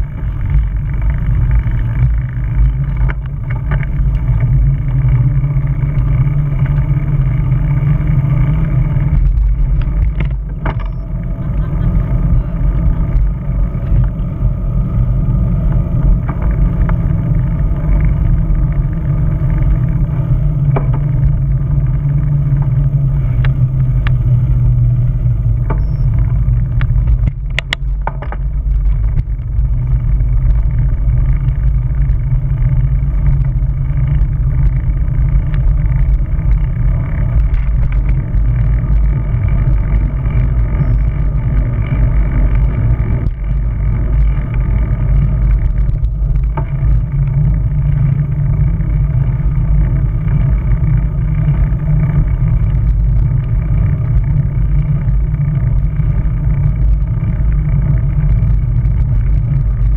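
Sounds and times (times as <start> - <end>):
bicycle tyre rumble: 0.0 - 59.9.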